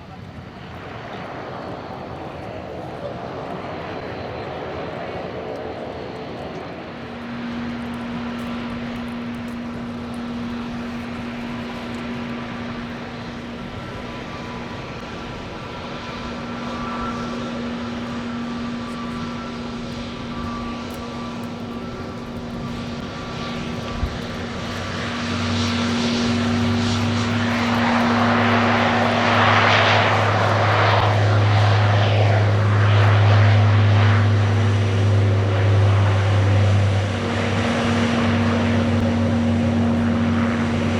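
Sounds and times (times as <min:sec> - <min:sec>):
deep propeller drone: 0:00.0 - 0:40.9
turboprop engines humming: 0:00.0 - 0:40.9.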